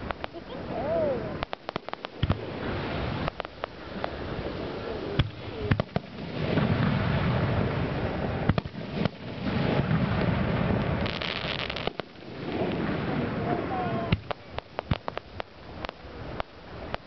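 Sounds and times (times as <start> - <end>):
fine crackling of fireworks: 0.0 - 17.0
fireworks bangs: 0.0 - 17.0
rolling rumble: 0.0 - 17.0.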